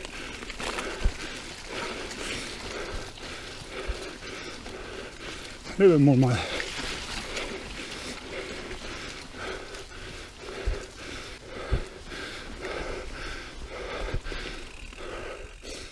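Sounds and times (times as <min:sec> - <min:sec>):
person panting rhythmically: 0:00.0 - 0:15.9.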